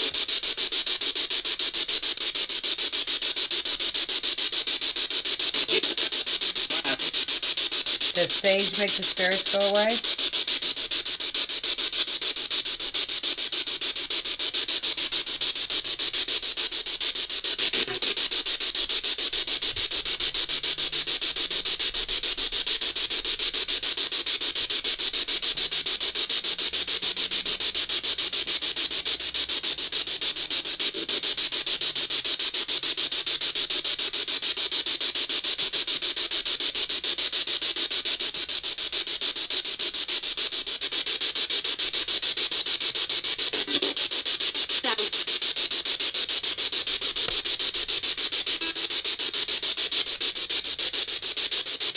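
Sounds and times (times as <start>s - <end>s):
choppy radio static: 0.0s - 33.8s, 38.1s - 51.9s.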